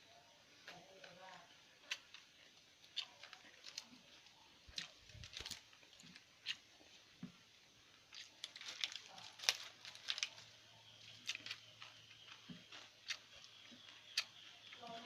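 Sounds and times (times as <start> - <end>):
chewing food: 0.4 - 15.0.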